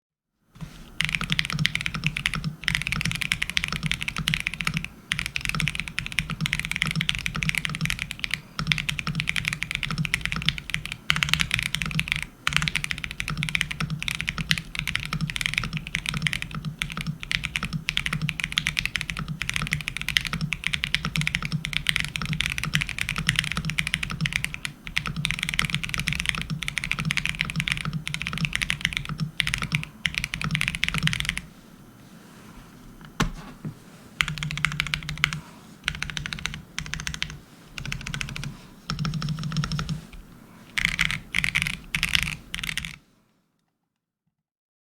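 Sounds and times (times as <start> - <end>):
mechanical keyboard typing: 1.0 - 31.5, 34.2 - 43.0.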